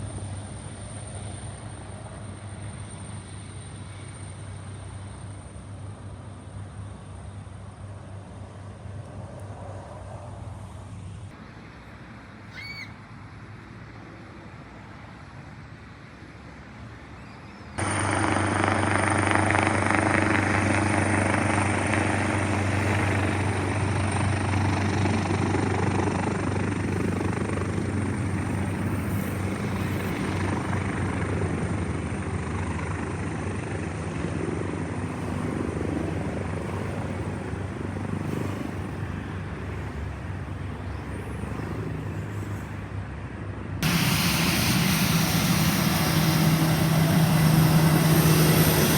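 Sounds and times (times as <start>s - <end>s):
aircraft engines running: 0.0s - 48.9s.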